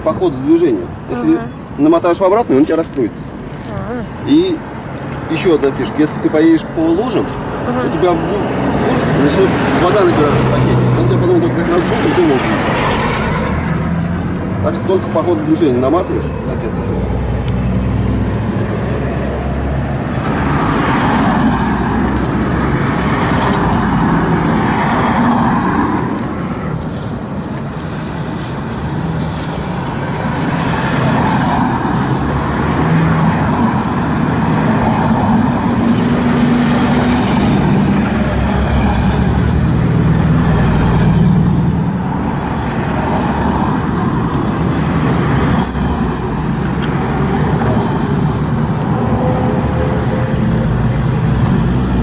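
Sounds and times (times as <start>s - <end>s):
road traffic rumble: 0.0s - 52.0s.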